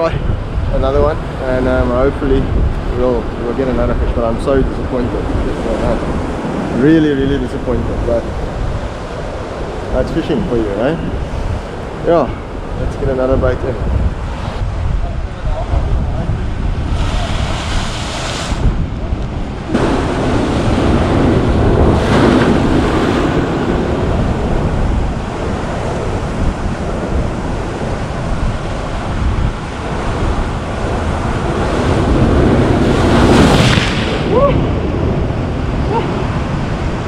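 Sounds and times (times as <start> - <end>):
surf breaking over rocks: 0.0 - 37.0
wind rumbling on microphone: 0.0 - 37.0.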